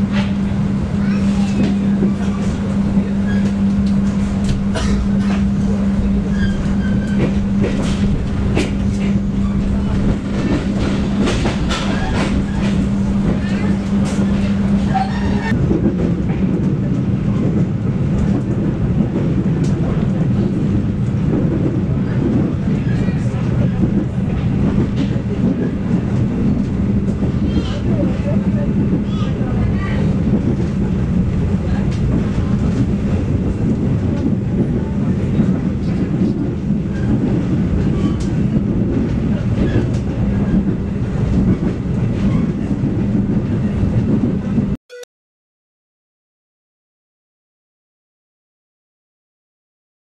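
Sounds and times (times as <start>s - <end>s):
wheels rumbling on rail: 0.0s - 44.8s.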